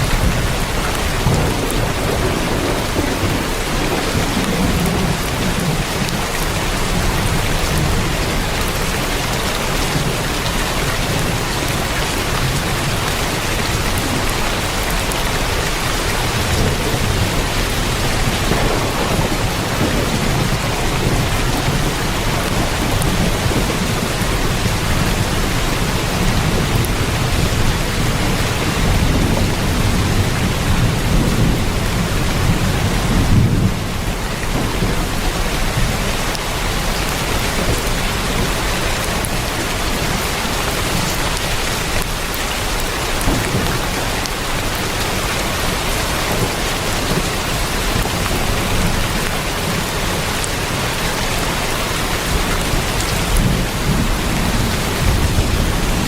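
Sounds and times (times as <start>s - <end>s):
heavy rain on a tin roof: 0.0s - 56.0s
low thunder rumble: 0.0s - 56.0s.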